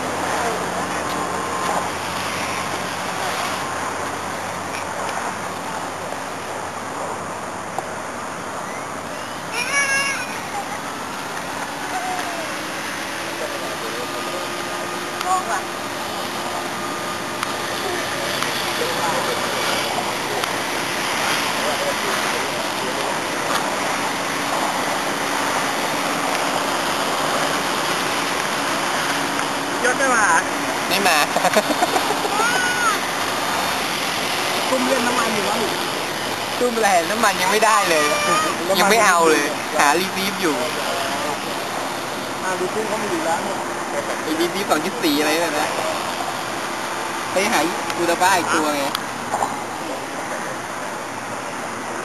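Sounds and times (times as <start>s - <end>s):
distant road traffic: 0.0s - 52.0s
model airplane engine whine: 0.0s - 52.0s
wind: 0.0s - 52.0s.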